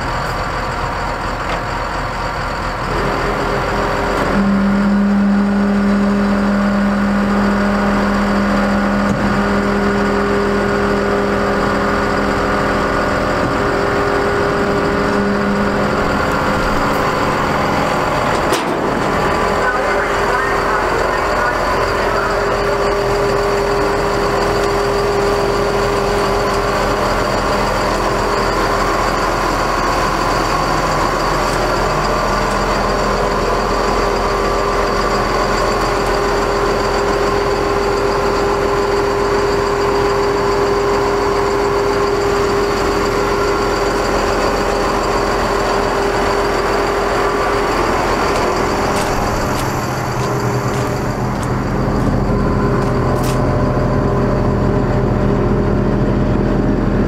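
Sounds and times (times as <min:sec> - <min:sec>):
diesel engine idling: 0:00.0 - 0:57.0
steady hum: 0:02.8 - 0:35.2, 0:41.9 - 0:56.7.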